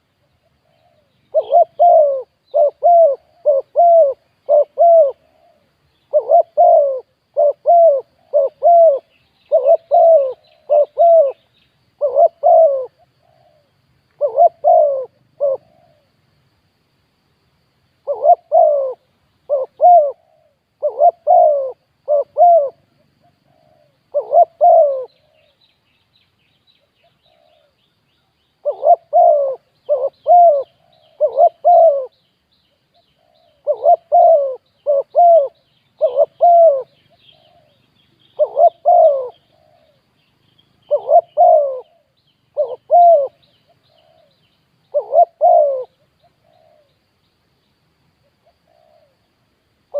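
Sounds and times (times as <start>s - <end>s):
dove cooing: 0.0s - 16.1s, 18.0s - 25.6s, 27.0s - 27.8s, 28.6s - 32.2s, 32.9s - 40.1s, 40.8s - 47.0s, 48.4s - 49.3s
small birds twittering: 0.0s - 16.2s, 18.0s - 49.9s.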